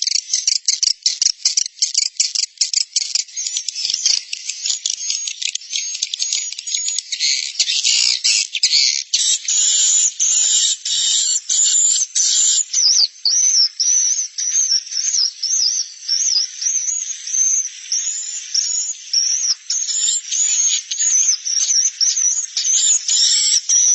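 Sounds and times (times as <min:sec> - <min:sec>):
rapid chirps and clicking twitters: 0:00.0 - 0:23.9.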